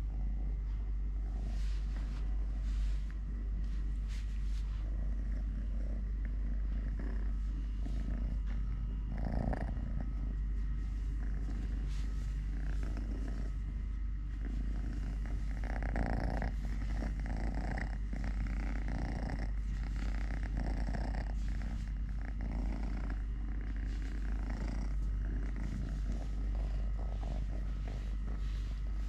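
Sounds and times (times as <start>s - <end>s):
kitten purring: 0.0s - 29.0s.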